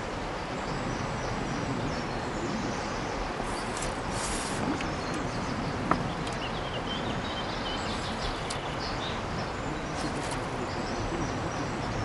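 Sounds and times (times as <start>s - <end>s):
steady rushing noise: 0.0s - 12.0s
small birds chirping: 0.3s - 12.0s.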